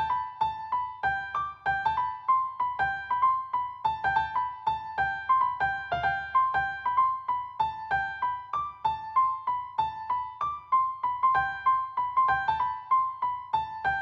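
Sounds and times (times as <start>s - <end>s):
plinking keyboard melody: 0.0s - 14.0s.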